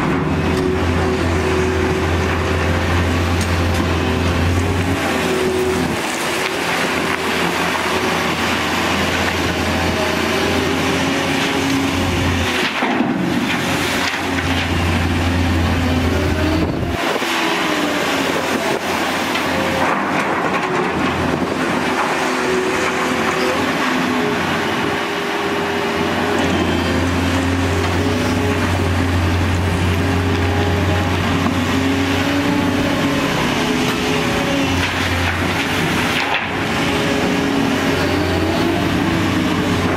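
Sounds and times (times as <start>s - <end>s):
dump truck diesel engine: 0.0s - 39.9s
excavator diesel engine: 0.0s - 39.9s.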